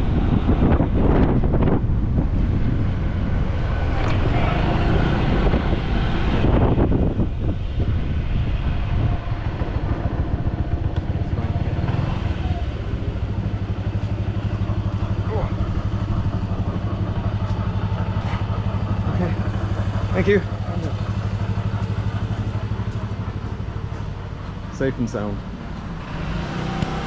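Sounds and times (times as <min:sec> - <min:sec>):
scooter engine running: 0:00.0 - 0:27.0
wind buffeting microphone: 0:00.0 - 0:27.0.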